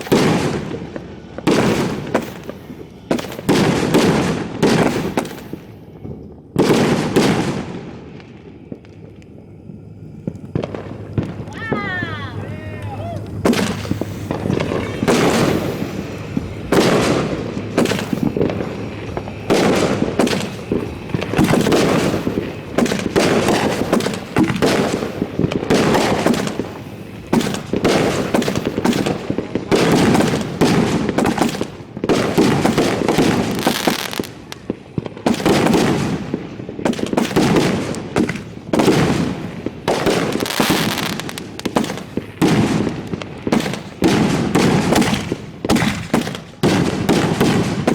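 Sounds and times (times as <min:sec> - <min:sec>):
fireworks booming: 0:00.0 - 0:47.9
fireworks crackling: 0:00.0 - 0:47.9.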